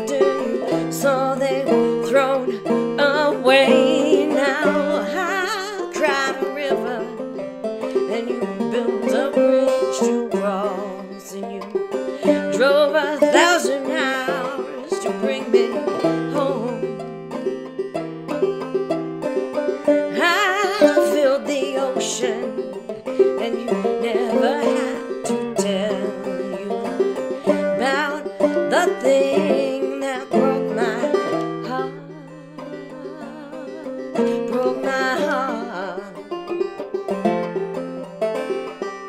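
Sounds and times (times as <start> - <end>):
woman singing: 0.0 - 17.0, 20.0 - 37.4
banjo picking: 0.0 - 39.0.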